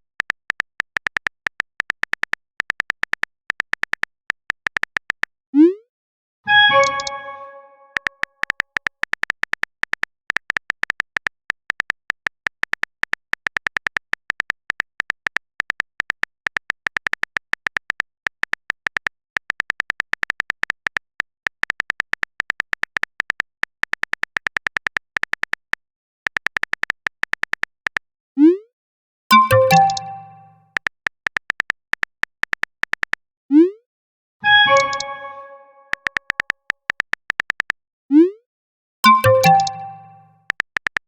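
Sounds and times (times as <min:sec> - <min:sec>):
phone keyboard typing clicks: 0:00.0 - 0:05.3, 0:06.7 - 0:28.0, 0:29.3 - 0:33.2, 0:34.5 - 0:37.8, 0:39.0 - 0:41.0.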